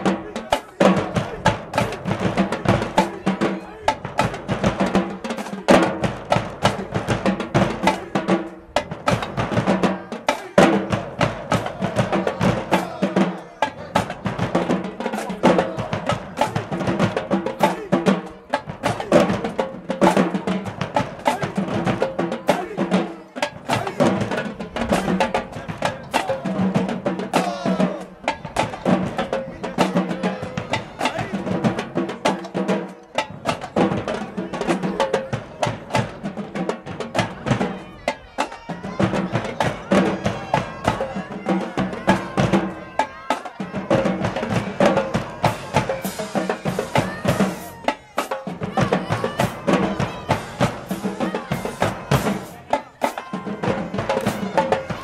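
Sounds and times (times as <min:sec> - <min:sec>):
drumline playing cadence: 0:00.0 - 0:55.0.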